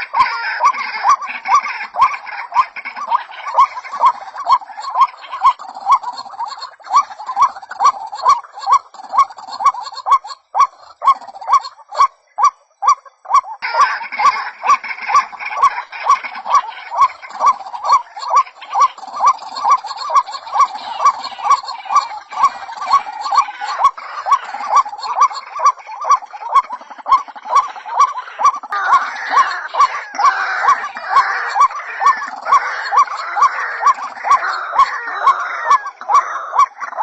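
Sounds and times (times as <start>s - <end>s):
harsh croaking bird call: 0.0s - 37.0s
short hoarse bird calls: 0.0s - 37.0s.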